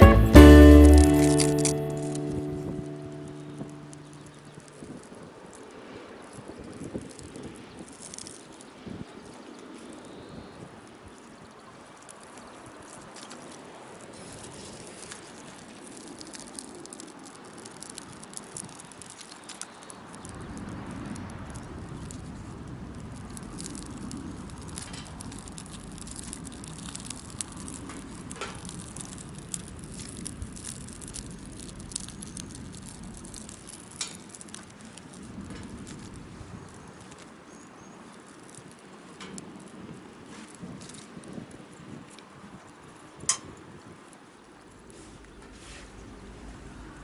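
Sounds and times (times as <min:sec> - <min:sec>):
wood fire crackling: 0:00.0 - 0:05.1, 0:06.2 - 0:08.5, 0:11.9 - 0:47.0.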